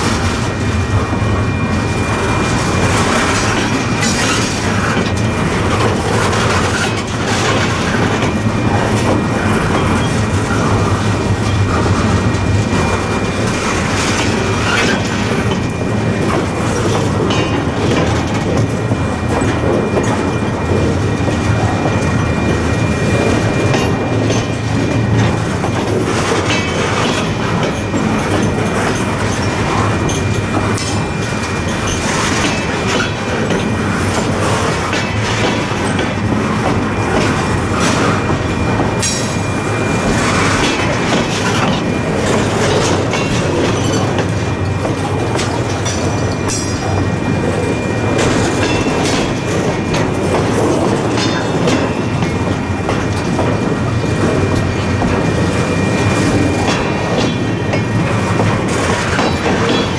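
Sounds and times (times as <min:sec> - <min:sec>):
steel wheels rumbling on rails: 0:00.0 - 0:59.9
clicks and clacks: 0:02.8 - 0:22.6, 0:23.3 - 0:47.1, 0:48.2 - 0:55.3, 0:56.2 - 0:59.9.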